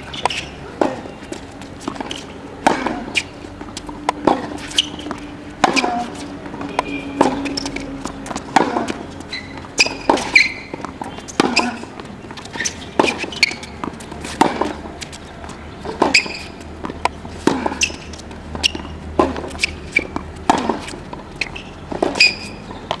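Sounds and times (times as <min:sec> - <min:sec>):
rackets striking tennis ball: 0:00.0 - 0:23.0
tennis ball bouncing on court: 0:00.0 - 0:23.0.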